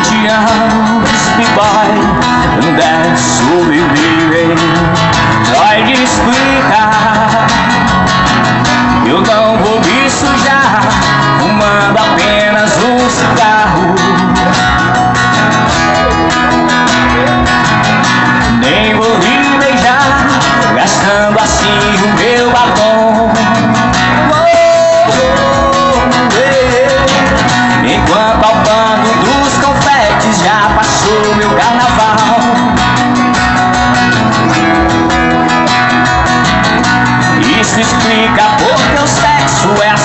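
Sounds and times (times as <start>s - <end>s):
instrumental guitar music: 0.0s - 40.0s.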